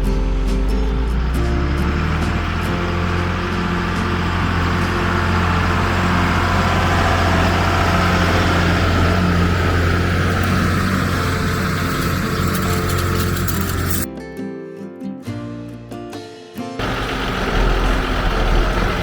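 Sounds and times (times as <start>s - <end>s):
tractor engine droning: 0.0s - 14.1s, 16.8s - 19.0s.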